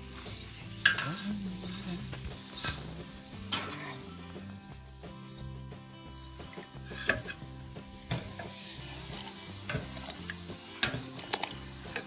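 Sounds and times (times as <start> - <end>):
quiet background music: 0.0 - 12.0
tomatoes sizzling on a grill: 0.0 - 12.0
wood fire crackling: 0.0 - 12.0.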